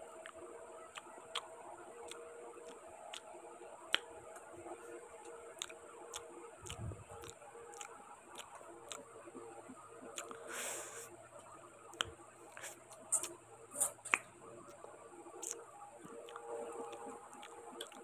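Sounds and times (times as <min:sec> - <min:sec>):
electric fan humming: 0:00.0 - 0:18.0
chewing with mouth clicks: 0:00.1 - 0:18.0.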